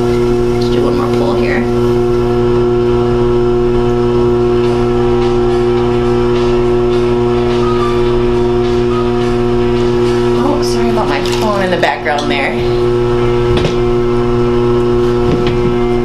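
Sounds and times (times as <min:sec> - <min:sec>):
pottery wheel motor hum: 0:00.0 - 0:16.0.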